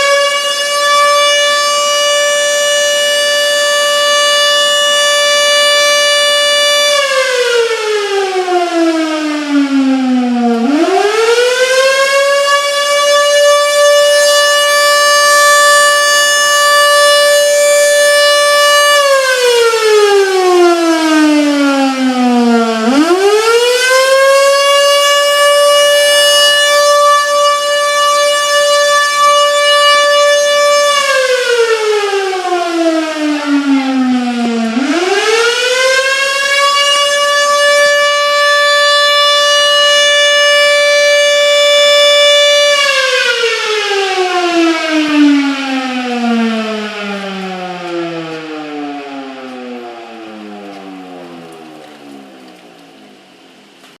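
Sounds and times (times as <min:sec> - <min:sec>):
electromechanical warning siren: 0:00.0 - 0:54.0.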